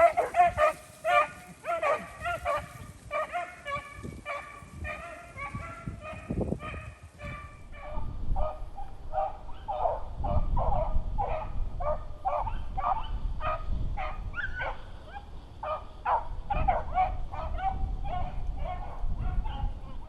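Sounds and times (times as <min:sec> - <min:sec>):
dogs baying: 0:00.0 - 0:20.0.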